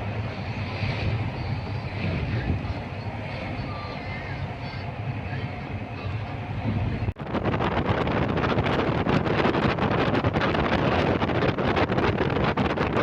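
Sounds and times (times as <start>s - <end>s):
boat engine drone: 0.0s - 13.0s
wind buffeting microphone: 0.0s - 13.0s.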